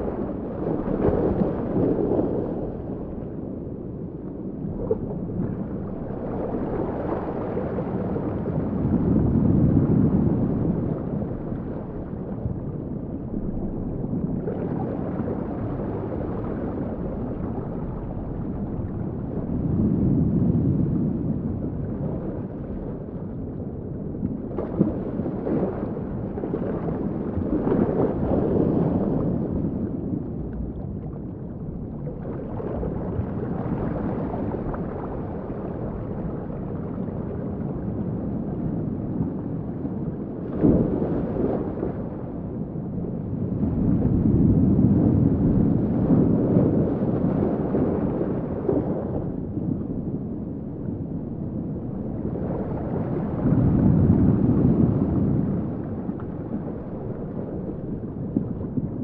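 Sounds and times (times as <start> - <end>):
muffled underwater water rumble: 0.0 - 59.0.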